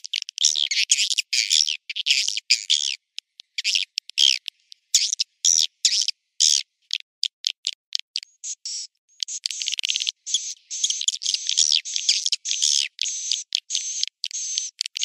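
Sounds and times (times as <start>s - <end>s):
high twittering bird chirps: 0.0s - 6.6s, 8.4s - 15.0s.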